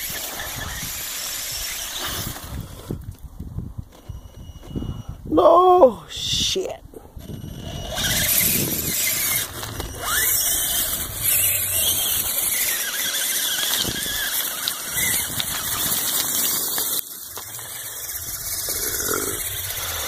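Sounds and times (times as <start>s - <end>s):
electric motors whining: 0.0s - 3.2s, 3.8s - 5.3s, 7.2s - 20.0s.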